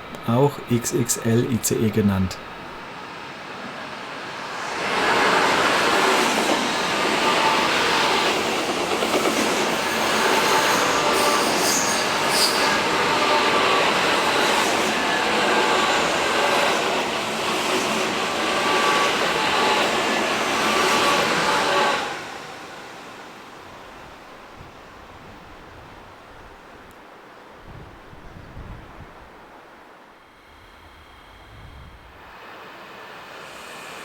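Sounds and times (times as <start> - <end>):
train passing at speed: 0.0 - 25.8, 30.2 - 34.0.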